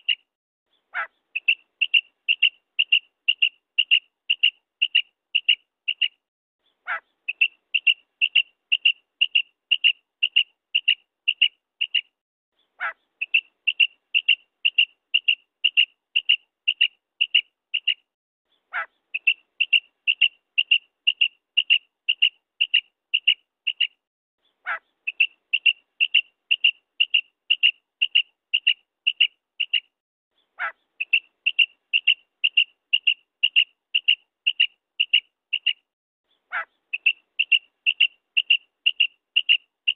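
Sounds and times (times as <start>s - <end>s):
quail call: 0.9s - 6.1s, 6.8s - 12.0s, 12.8s - 18.0s, 18.7s - 23.9s, 24.6s - 29.9s, 30.6s - 35.8s, 36.5s - 39.9s.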